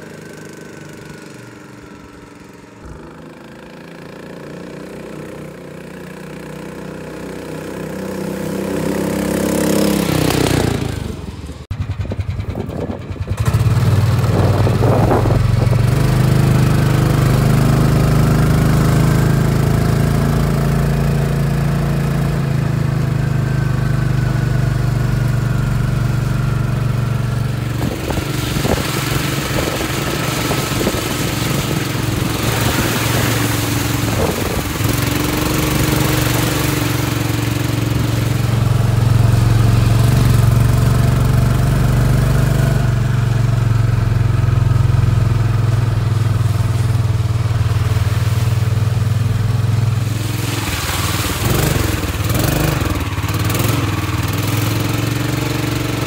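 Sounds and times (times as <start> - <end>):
cart driving over dirt: 0.0 - 56.0
single-cylinder engine running: 0.0 - 56.0.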